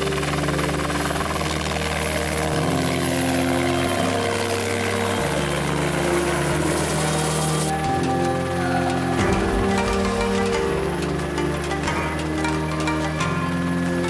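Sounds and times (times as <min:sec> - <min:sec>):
helicopter hovering: 0:00.0 - 0:14.0
music with low chords: 0:00.0 - 0:14.0.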